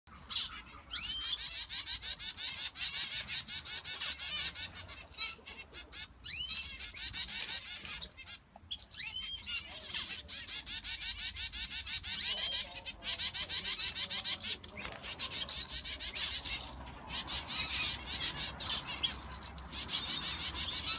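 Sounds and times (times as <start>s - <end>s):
finches chirping: 0.1s - 20.9s.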